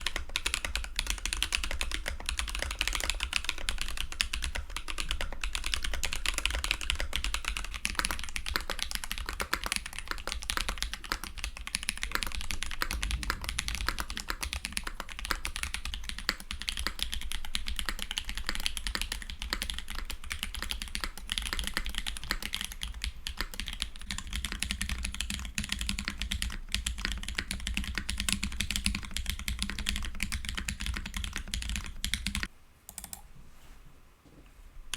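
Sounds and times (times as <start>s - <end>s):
fast typing on mechanical keyboard: 0.0s - 33.2s.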